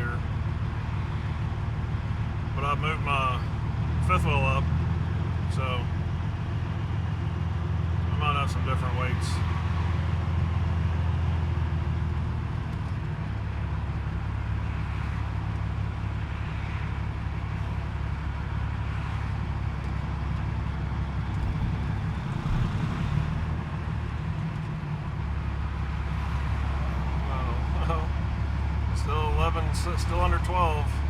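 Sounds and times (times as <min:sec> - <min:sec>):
diesel truck engine droning: 0:00.0 - 0:31.0.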